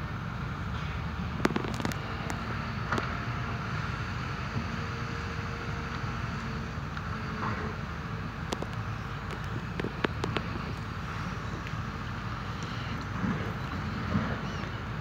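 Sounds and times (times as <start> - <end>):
diesel engines rumbling: 0.0 - 15.0.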